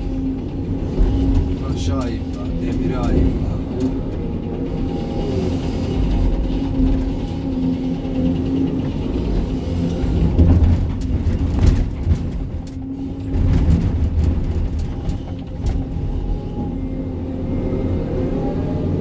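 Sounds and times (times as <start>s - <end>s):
excavator diesel engine under load: 0.0s - 19.0s.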